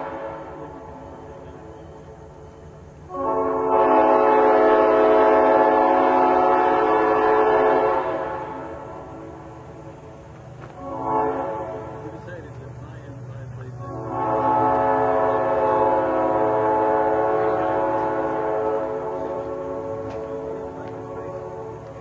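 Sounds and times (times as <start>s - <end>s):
locomotive air horn chord: 0.0s - 9.8s, 10.6s - 12.7s, 13.7s - 22.0s.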